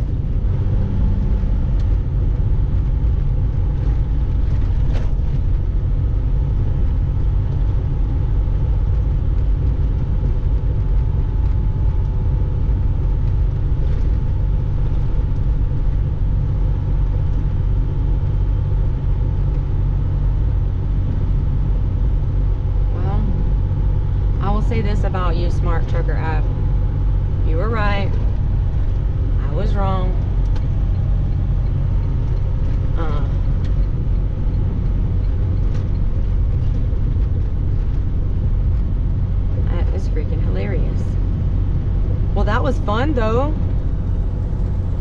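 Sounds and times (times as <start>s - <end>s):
faint steady drone: 0.0s - 45.0s
truck diesel engine rumble: 0.0s - 45.0s.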